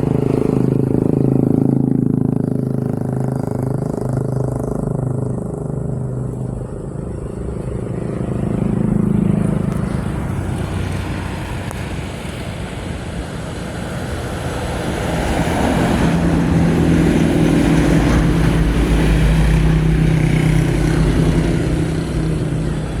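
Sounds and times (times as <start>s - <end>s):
motor engine running: 0.0s - 23.0s.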